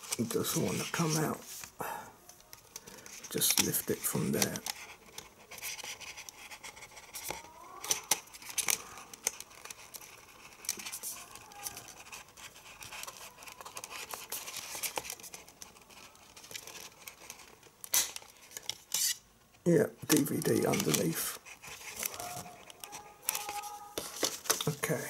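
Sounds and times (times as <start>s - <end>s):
faint plastic squeaks: 2.3s - 19.2s, 20.0s - 25.0s
plastic disc case clicks and scrapes: 2.4s - 19.2s, 20.0s - 25.0s.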